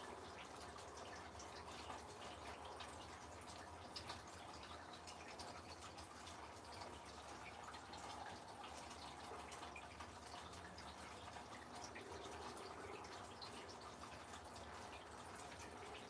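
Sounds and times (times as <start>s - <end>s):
rain dripping: 0.0s - 16.0s.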